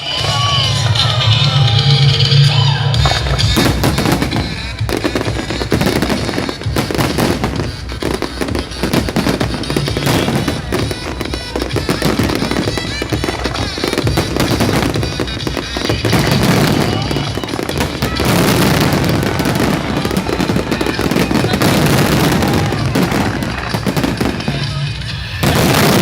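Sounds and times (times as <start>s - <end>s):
fireworks bursting and crackling: 0.0s - 26.0s
loud music: 0.0s - 26.0s.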